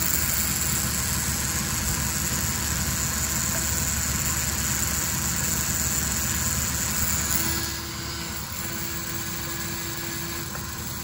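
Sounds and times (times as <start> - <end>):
rotary grinder grinding metal: 0.0 - 11.0.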